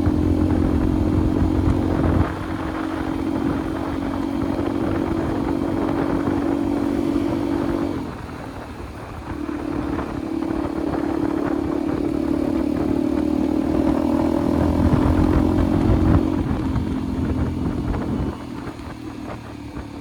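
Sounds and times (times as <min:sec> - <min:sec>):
motorcycle engine cruising: 0:00.0 - 0:20.0
road and wind rumble: 0:00.0 - 0:20.0.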